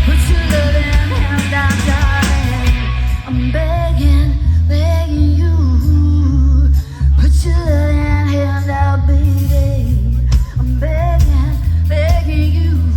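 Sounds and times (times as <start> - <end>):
heavy bass line: 0.0 - 12.9
live rock-pop band: 0.0 - 12.9.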